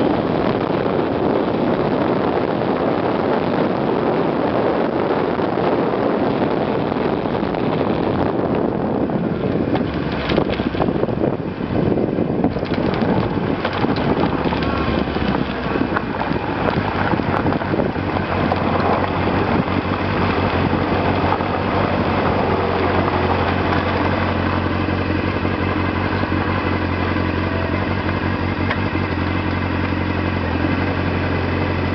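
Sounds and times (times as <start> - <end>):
wind buffeting microphone: 0.0 - 31.9
motorcycle engine idling: 6.3 - 31.9.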